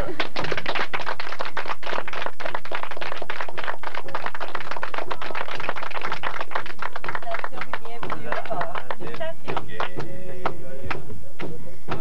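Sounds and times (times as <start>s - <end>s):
people clapping: 0.0s - 12.0s.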